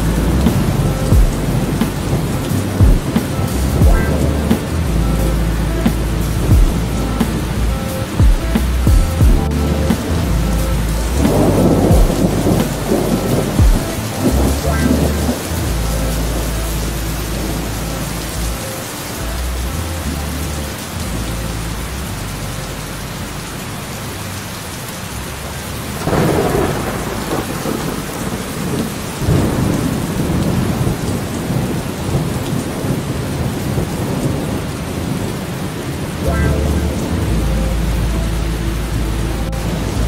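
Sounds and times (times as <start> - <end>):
thunder rumbling: 0.0 - 18.5, 25.8 - 40.0
steady rain: 0.0 - 40.0.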